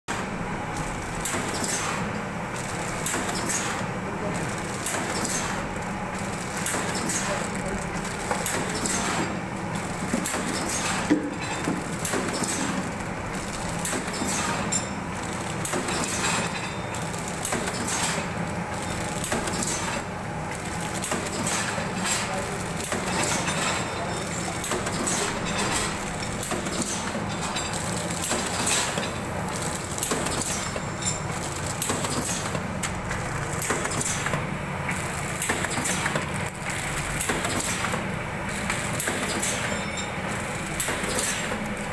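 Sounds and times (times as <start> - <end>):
packing machine running: 0.1 - 41.9.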